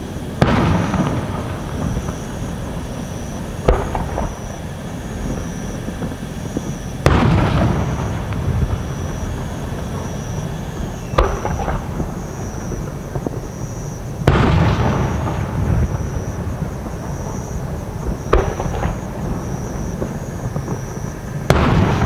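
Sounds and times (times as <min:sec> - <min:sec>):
echoing rumble: 0:00.0 - 0:22.0
fireworks booming: 0:00.0 - 0:22.0.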